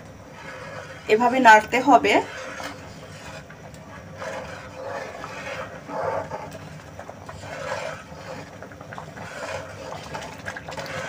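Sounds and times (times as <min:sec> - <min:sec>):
water simmering: 0:00.0 - 0:11.0
spatula scraping pan bottom: 0:00.3 - 0:11.0.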